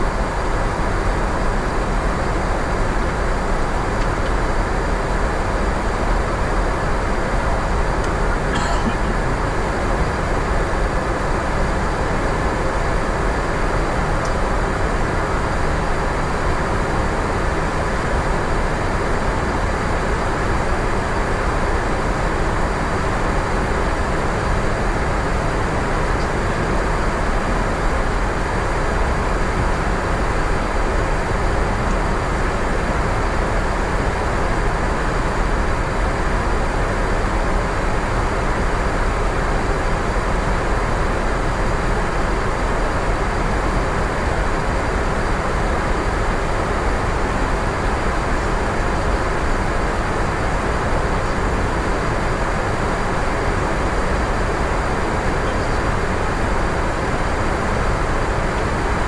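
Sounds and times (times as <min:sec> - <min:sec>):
airflow and engine noise: 0:00.0 - 0:59.0.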